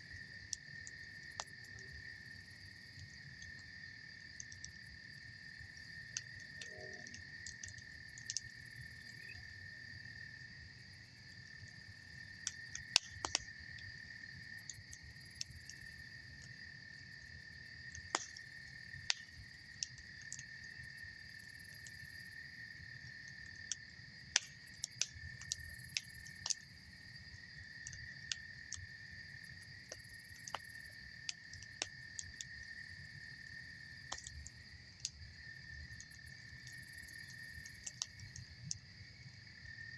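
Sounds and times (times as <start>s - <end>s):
campfire wood crackling: 0.0s - 39.9s
crickets trilling: 0.0s - 39.9s.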